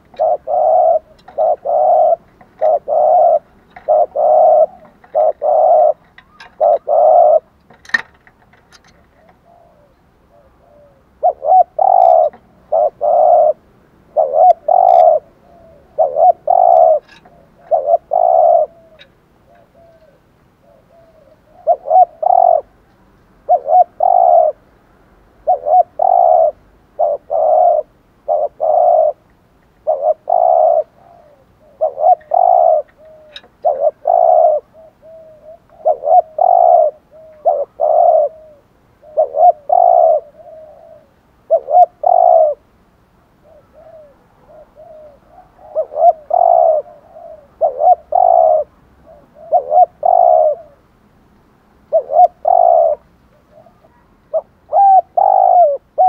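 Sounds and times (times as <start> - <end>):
dove cooing: 0.0 - 8.1, 8.7 - 22.8, 23.4 - 24.6, 25.4 - 42.7, 43.3 - 50.9, 51.9 - 56.0.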